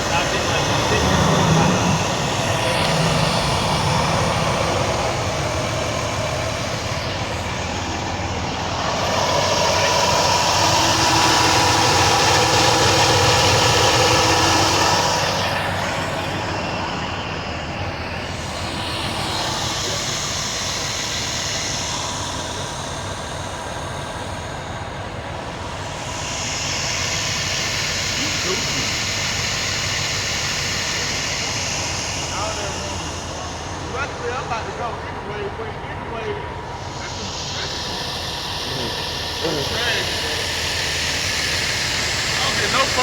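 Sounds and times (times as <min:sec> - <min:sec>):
truck diesel engine idling: 0:00.0 - 0:43.0.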